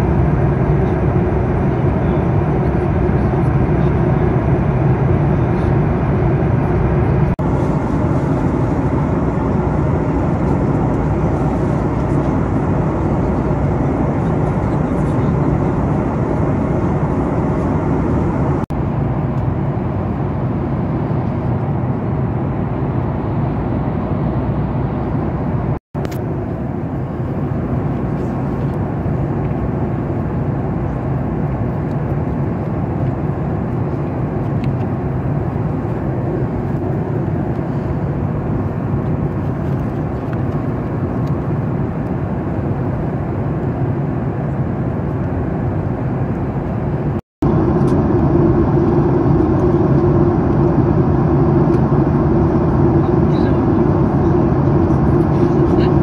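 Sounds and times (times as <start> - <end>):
airflow: 0.0 - 56.0
airplane cabin engine roar: 0.0 - 56.0.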